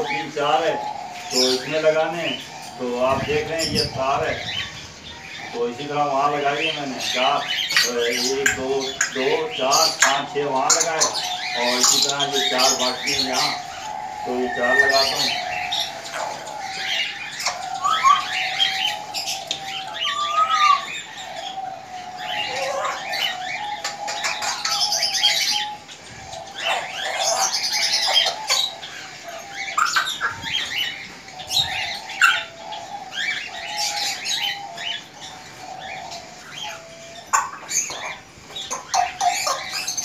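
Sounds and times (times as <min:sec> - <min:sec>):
budgerigars chirping: 0:00.0 - 0:40.0
wavering bird warble: 0:00.0 - 0:40.0.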